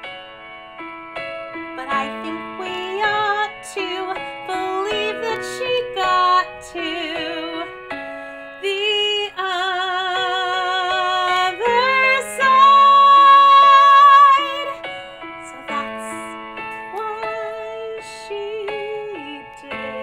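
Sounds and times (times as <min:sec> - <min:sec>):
woman singing with vibrato: 0:01.8 - 0:07.7, 0:08.6 - 0:20.0.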